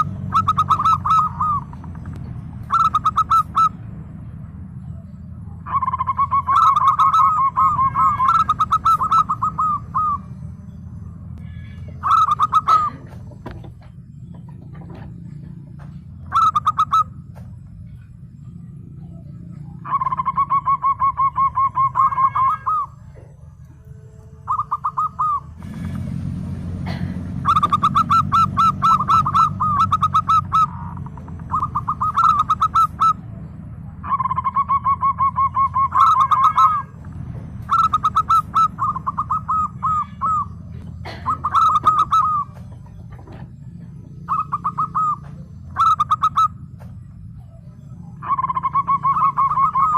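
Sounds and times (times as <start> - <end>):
dove cooing: 0.0 - 3.8, 4.6 - 49.9
steady low hum: 0.0 - 49.9.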